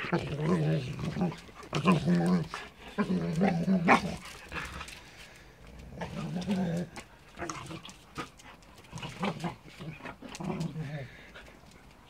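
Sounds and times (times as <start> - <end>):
dog growling: 0.0 - 5.0, 5.6 - 11.6
dogs scuffling: 0.0 - 12.0.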